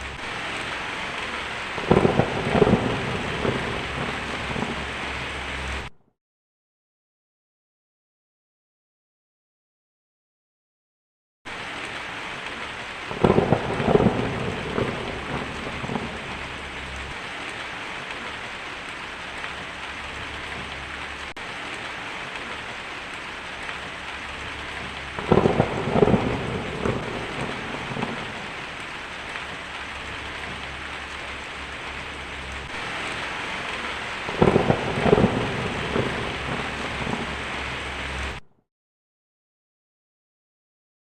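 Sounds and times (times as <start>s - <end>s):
heavy rain falling: 0.0s - 5.9s, 11.5s - 38.5s
thunder rumbling: 0.0s - 5.9s, 11.5s - 38.5s.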